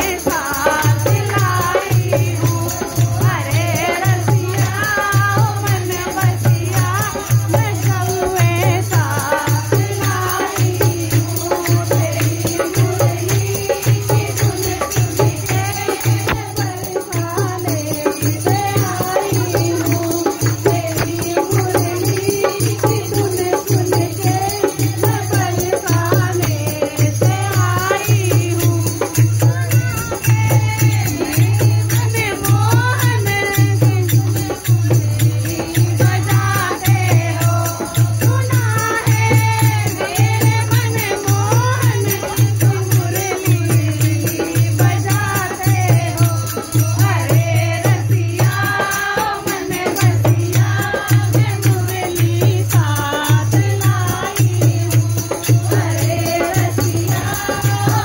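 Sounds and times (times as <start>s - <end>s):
hand drum beating steady rhythm: 0.0s - 58.0s
jingling percussion: 0.0s - 58.0s
women singing devotional song: 0.0s - 58.0s.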